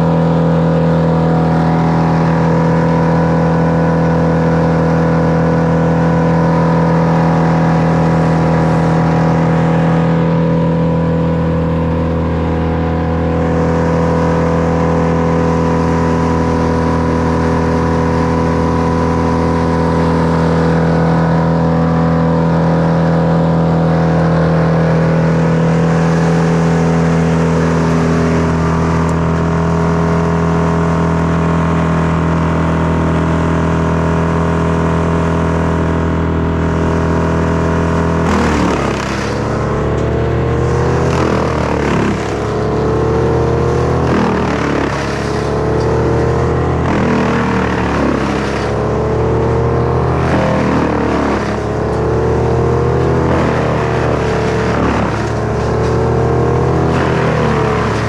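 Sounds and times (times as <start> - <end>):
engine running at high speed: 0.0 - 58.0.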